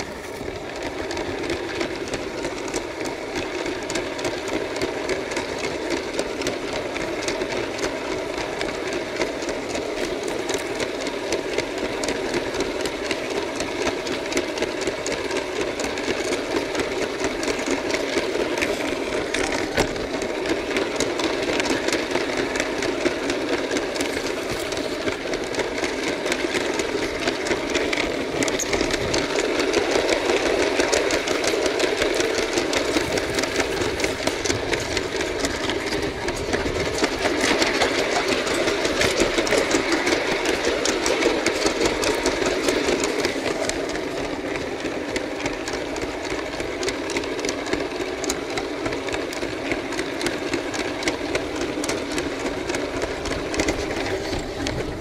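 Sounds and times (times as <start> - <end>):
toy train motor whirring: 0.0 - 55.0
wheels clicking on plastic track: 0.0 - 55.0.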